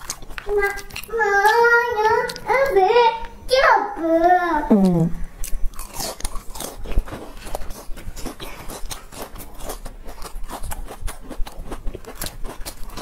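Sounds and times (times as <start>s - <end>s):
crunchy chewing: 0.0s - 2.8s, 4.8s - 13.0s.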